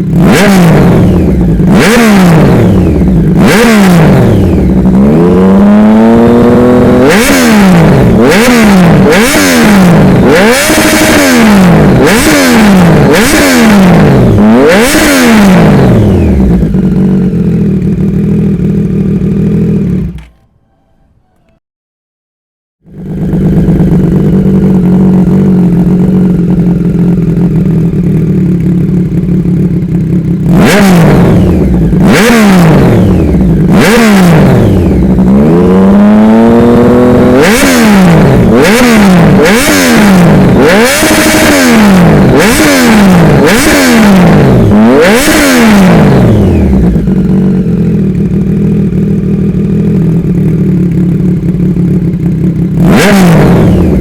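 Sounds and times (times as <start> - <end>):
motorcycle engine idling and revving: 0.0 - 20.5, 22.8 - 54.0.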